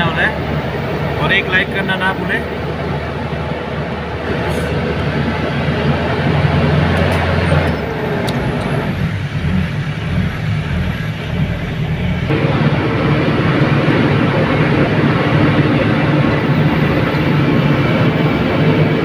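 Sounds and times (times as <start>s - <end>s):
road noise: 0.0s - 19.0s
steady hum: 0.0s - 19.0s
truck engine running under load: 0.0s - 19.0s.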